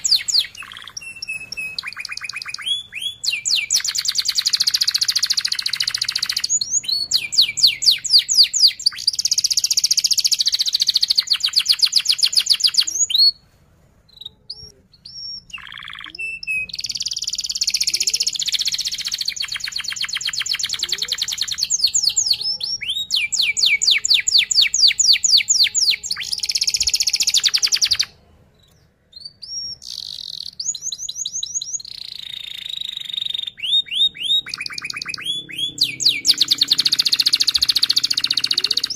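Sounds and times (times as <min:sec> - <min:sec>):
canary singing trills: 0:00.0 - 0:13.4, 0:14.1 - 0:38.9.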